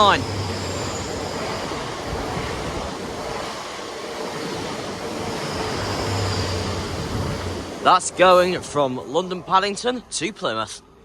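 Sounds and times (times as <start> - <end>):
train passing: 0.0 - 11.0.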